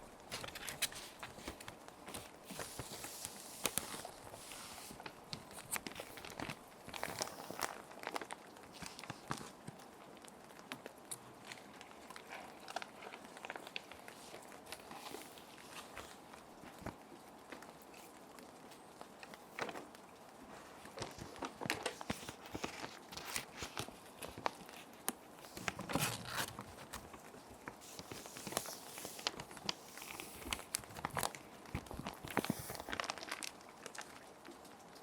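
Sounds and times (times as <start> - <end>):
gentle rain: 0.0 - 35.0
plastic sheets crinkling: 0.0 - 35.0.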